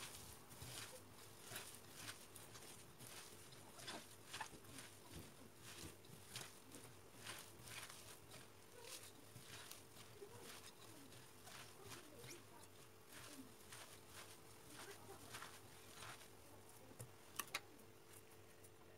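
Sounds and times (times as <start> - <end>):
greens rustling and squishing: 0.0 - 18.8.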